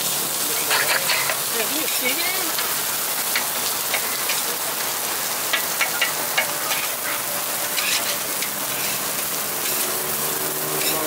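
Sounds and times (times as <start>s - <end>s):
patties sizzling on griddle: 0.0s - 11.0s.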